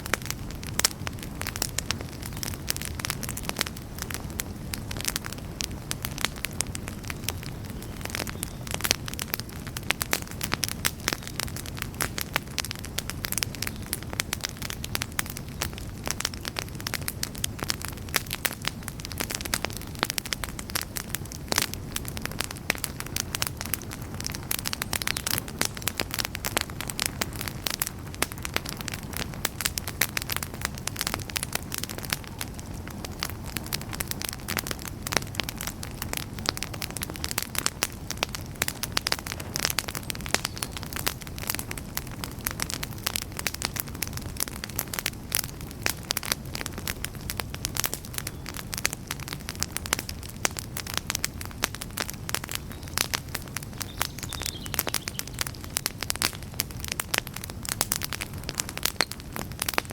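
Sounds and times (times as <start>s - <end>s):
campfire crackling: 0.0s - 59.9s
flames rushing: 0.0s - 59.9s.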